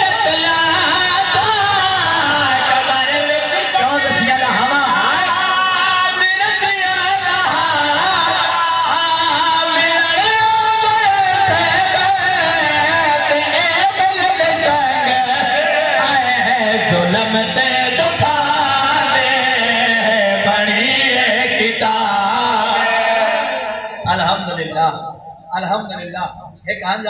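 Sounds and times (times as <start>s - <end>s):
man singing a slow lament: 0.0s - 24.1s.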